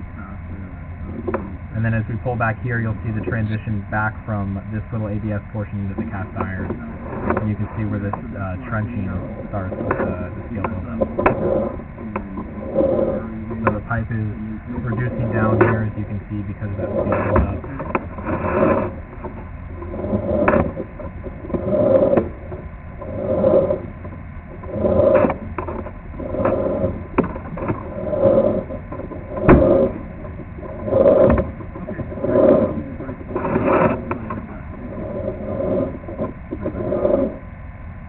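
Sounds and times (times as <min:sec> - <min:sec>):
push cable rasping: 0:05.0 - 0:37.4.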